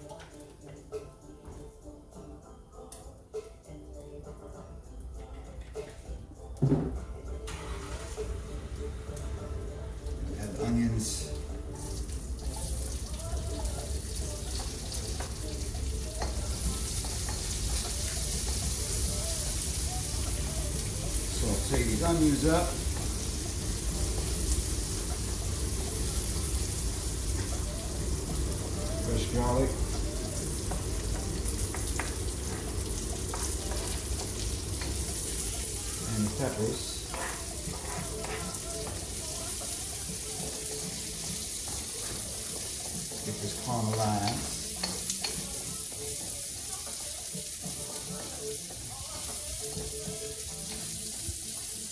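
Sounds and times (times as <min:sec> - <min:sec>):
onions sizzling in oil: 0:09.1 - 0:51.9.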